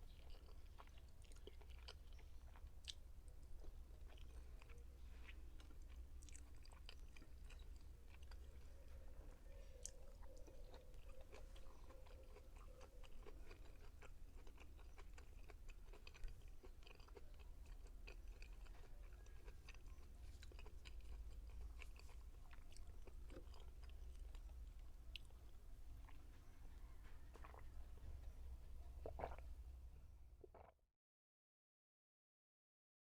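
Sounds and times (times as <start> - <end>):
person chewing food: 0.0 - 29.6, 30.4 - 30.7.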